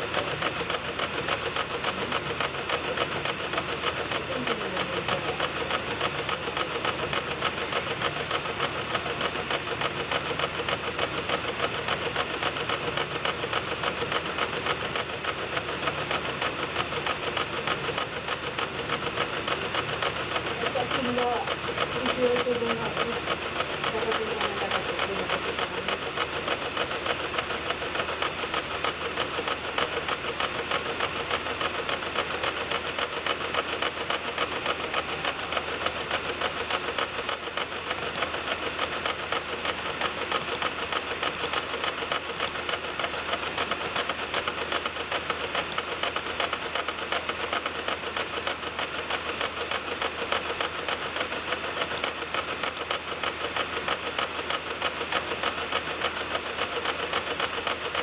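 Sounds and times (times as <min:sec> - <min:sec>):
disc drive rapid clicking: 0:00.0 - 0:58.0
spinning disc whir: 0:00.0 - 0:58.0.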